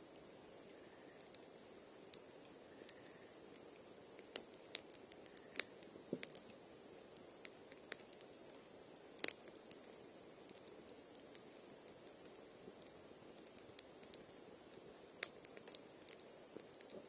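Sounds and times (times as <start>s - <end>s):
campfire crackling and popping: 0.0s - 17.0s
faint hiss: 0.0s - 17.0s.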